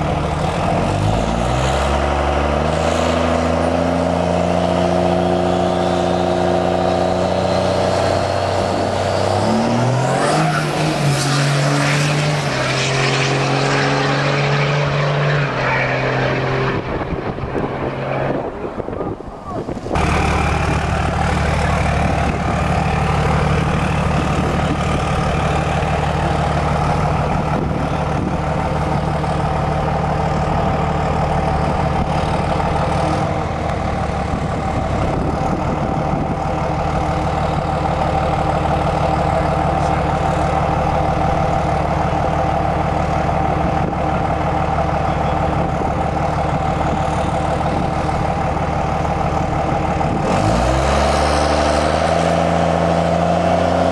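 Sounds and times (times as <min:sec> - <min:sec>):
diesel truck engine droning: 0:00.0 - 0:53.9.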